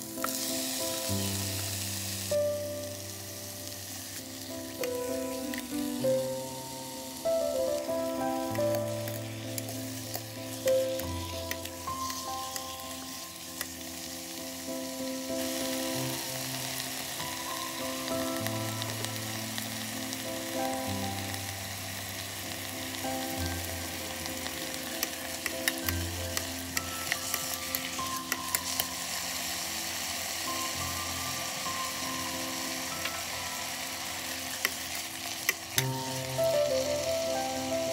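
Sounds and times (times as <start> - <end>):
food sizzling in a pot: 0.0 - 37.9
soft background music: 0.0 - 37.9.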